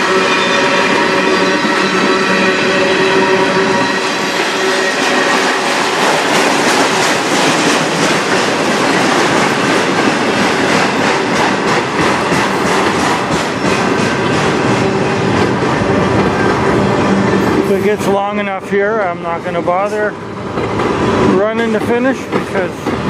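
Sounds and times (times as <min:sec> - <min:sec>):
freight train rolling past: 0:00.0 - 0:23.0
wheels clacking over rail joints: 0:04.1 - 0:23.0.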